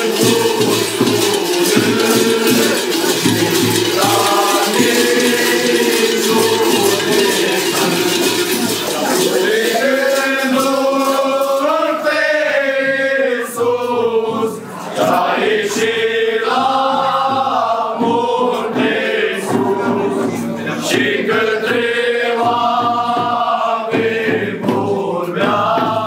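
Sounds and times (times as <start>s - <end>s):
group of men singing carol: 0.0s - 26.0s.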